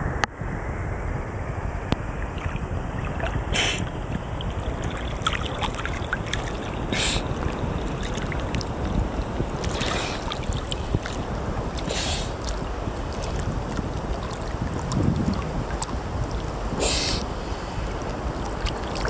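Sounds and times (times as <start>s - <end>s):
steady low rumble: 0.0s - 19.0s
hissing splashes: 2.0s - 19.0s
seawater sloshing and lapping: 2.0s - 19.0s
small splashes and drips: 2.2s - 19.0s.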